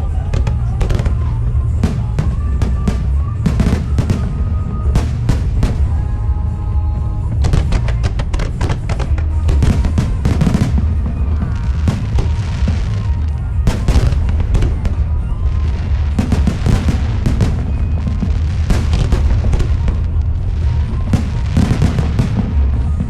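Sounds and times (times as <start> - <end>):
fireworks bangs and crackles: 0.0 - 23.0
loud music with heavy bass: 0.0 - 23.0.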